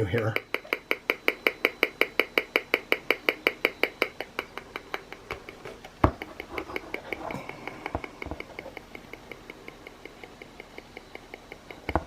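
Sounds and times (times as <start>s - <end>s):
rf meter clicking steadily: 0.0s - 12.0s.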